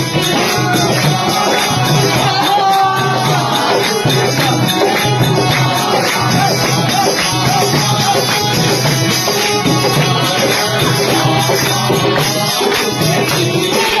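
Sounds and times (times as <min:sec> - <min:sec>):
devotional music: 0:00.0 - 0:14.0.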